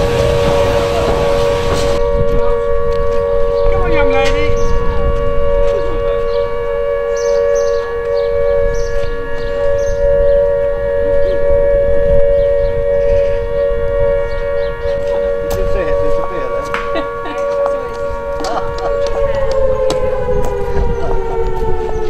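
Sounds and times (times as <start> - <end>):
air-raid siren steady two-note chord: 0.0 - 22.0.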